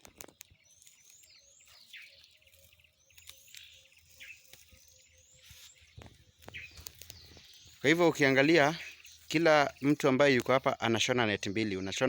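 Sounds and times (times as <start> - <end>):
faint high bird chirps: 0.1 - 12.0.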